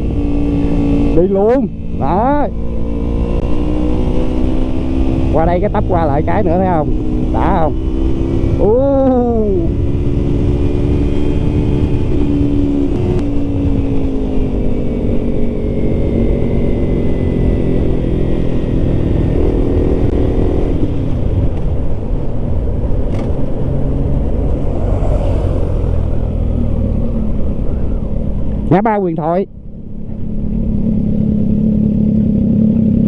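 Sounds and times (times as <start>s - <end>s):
wind rushing over microphone: 0.0s - 32.0s
motorcycle engine running: 0.0s - 33.0s.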